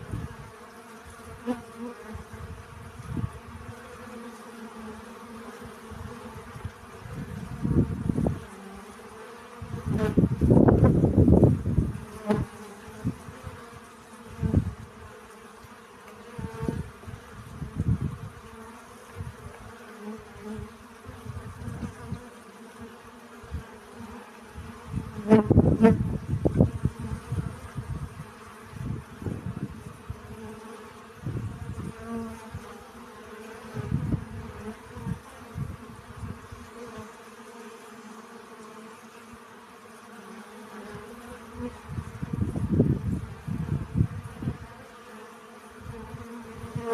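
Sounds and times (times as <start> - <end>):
bees buzzing: 0.0 - 46.9.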